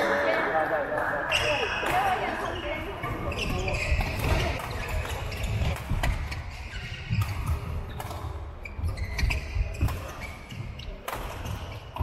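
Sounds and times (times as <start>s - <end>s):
background badminton play: 0.0s - 12.0s.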